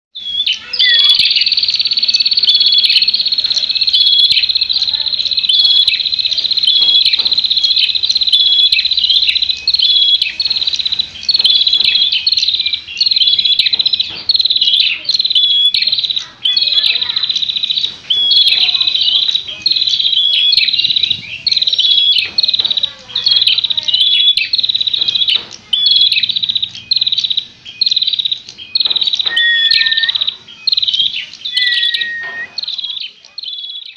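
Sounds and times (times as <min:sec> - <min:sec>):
bird high-pitched trill: 0:00.2 - 0:33.9.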